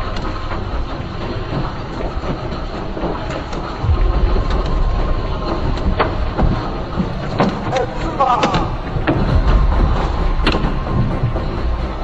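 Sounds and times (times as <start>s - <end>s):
landslide rumbling: 0.0s - 12.0s.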